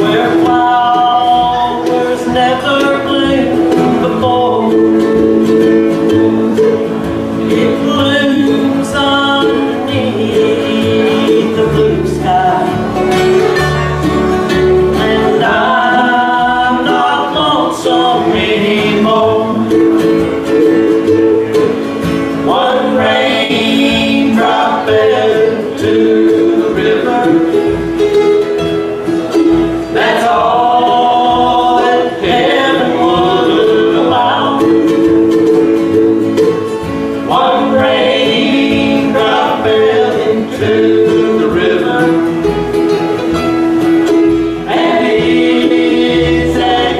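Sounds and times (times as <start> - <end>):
person singing: 0.0 - 28.2, 29.4 - 43.0, 44.0 - 46.9
plucked acoustic guitar: 0.0 - 46.9
upright bass: 0.0 - 46.9.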